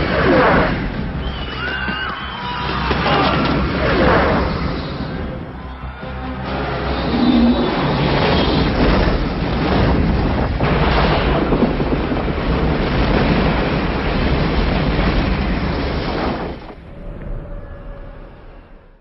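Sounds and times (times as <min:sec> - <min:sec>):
rumbling explosions: 0:00.0 - 0:19.0.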